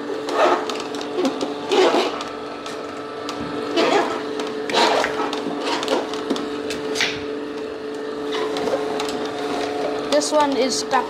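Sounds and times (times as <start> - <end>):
juicer motor humming: 0.0 - 11.0
apples crunching: 0.1 - 11.0.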